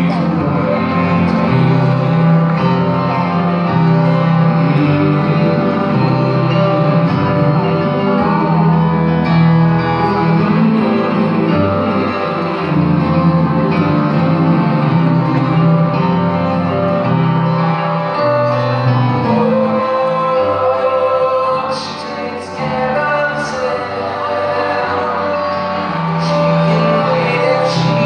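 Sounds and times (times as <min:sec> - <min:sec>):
electric guitars: 0:00.0 - 0:28.0
live band playing: 0:00.0 - 0:28.0.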